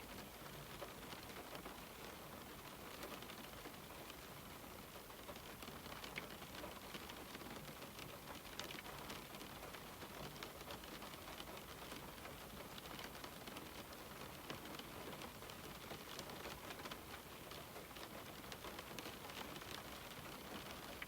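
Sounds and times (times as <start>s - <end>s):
rain falling on a window: 0.0s - 21.0s.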